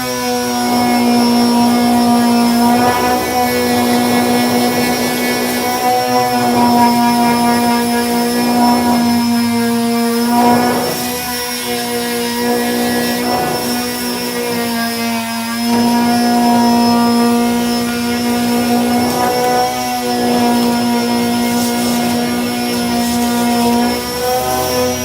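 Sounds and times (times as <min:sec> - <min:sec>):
power sander motor hum: 0:00.0 - 0:25.0.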